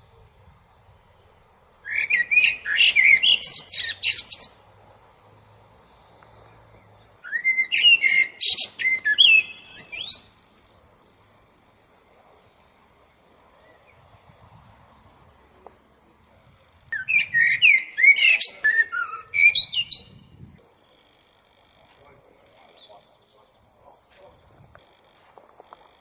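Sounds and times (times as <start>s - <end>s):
blackbird singing: 0.0s - 4.7s, 5.7s - 14.2s, 15.1s - 24.6s.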